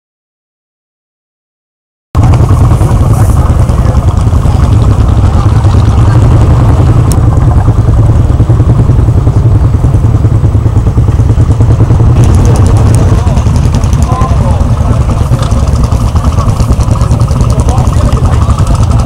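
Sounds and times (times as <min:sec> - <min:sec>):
engine idling with fast even beat: 0:02.2 - 0:19.0.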